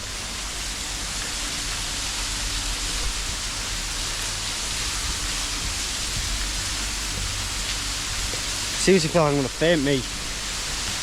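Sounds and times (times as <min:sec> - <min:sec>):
water rushing down waterfall: 0:00.0 - 0:11.0.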